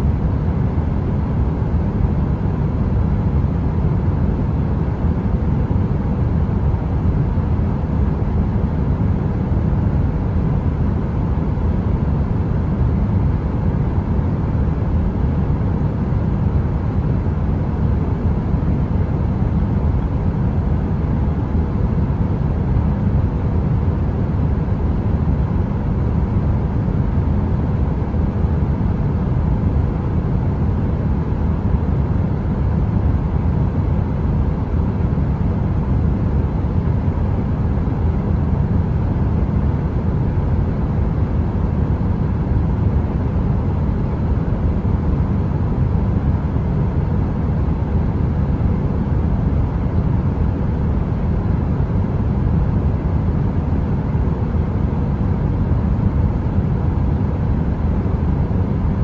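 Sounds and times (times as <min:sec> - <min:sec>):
space heater rumbling hiss: 0:00.0 - 0:59.0.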